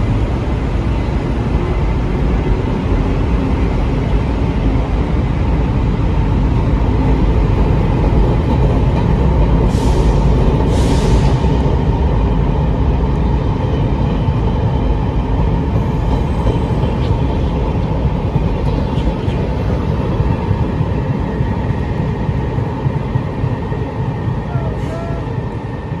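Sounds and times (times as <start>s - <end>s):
train rolling on rails: 0.0s - 26.0s.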